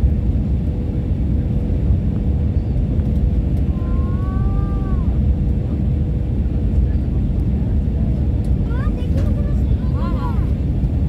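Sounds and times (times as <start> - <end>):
jet engines and airflow: 0.0 - 11.0.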